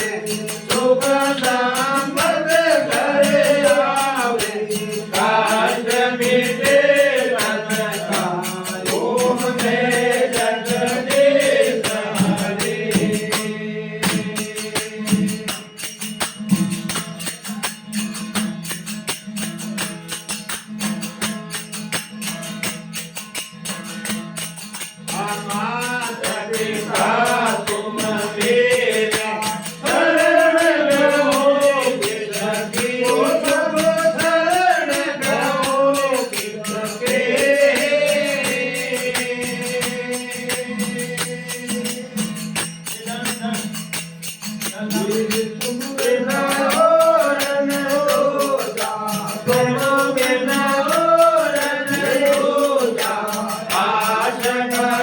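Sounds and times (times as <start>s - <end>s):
man singing devotional song: 0.0s - 16.2s, 24.7s - 55.0s
jingling percussion: 0.0s - 55.0s.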